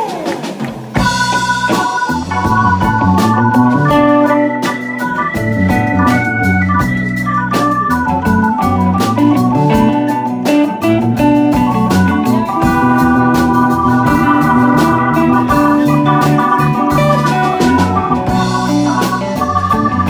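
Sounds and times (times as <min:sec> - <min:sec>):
blues band playing: 0:00.0 - 0:20.0.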